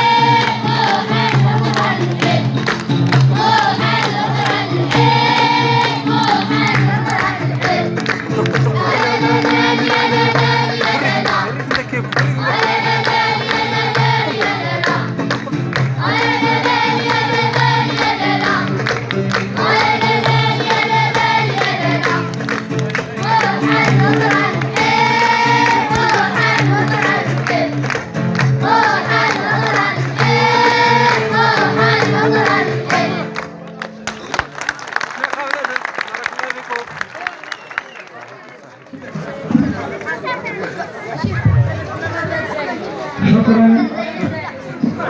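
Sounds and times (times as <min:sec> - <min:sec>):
children's choir singing in unison: 0:00.0 - 0:33.5, 0:42.0 - 0:45.0.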